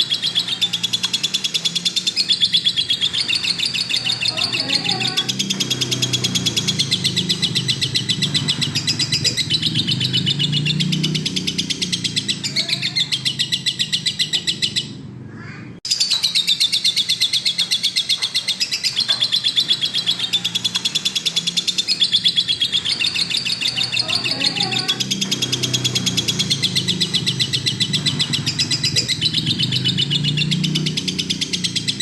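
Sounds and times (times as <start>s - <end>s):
lovebird chattering: 0.0s - 32.0s.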